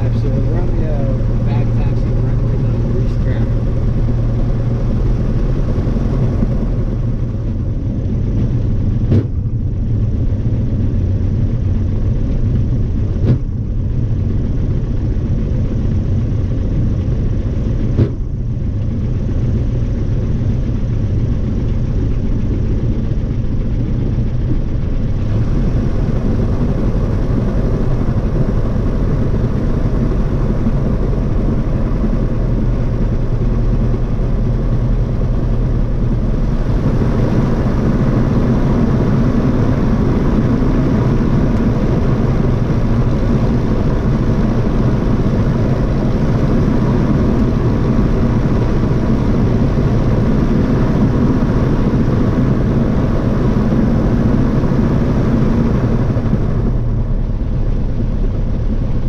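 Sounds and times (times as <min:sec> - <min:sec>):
airplane piston engine droning: 0:00.0 - 0:59.0.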